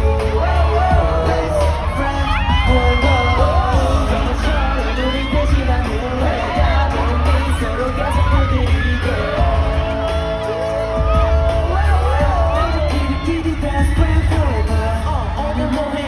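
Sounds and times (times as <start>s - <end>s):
crowd noise: 0.0s - 16.0s
pop song over sound system: 0.0s - 16.0s.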